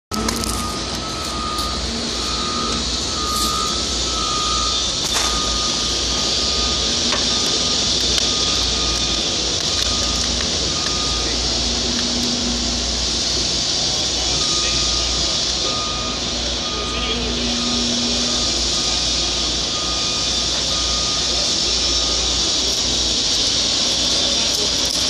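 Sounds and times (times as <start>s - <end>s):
backup alarm beeping: 0.1s - 24.9s
machinery rumble and hiss: 0.1s - 25.0s.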